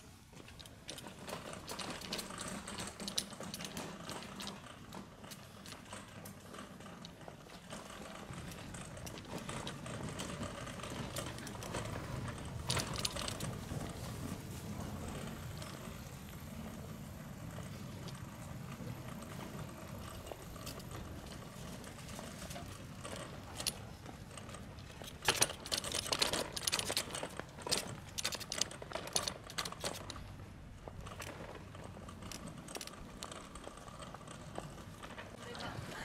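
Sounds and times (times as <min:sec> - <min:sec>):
cart rattling over railway tracks: 0:00.0 - 0:36.0
cart wheels rumbling on pavement: 0:00.0 - 0:36.0.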